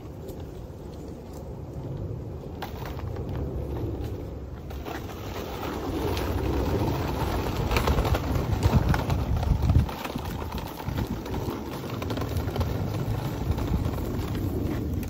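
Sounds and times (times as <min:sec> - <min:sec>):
footsteps on paved path: 0:00.0 - 0:15.0
low rumble: 0:00.2 - 0:15.0.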